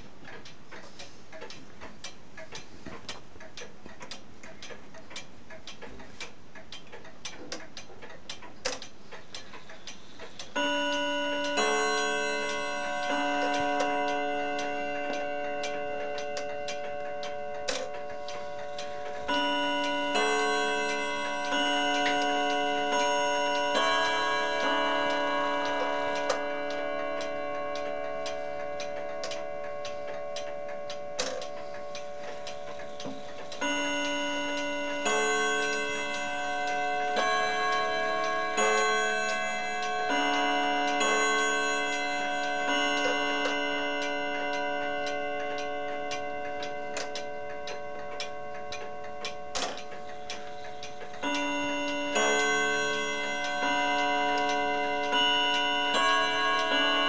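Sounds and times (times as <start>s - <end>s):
wall clock ticking: 0.0s - 57.0s
clock chime melody: 10.0s - 57.0s.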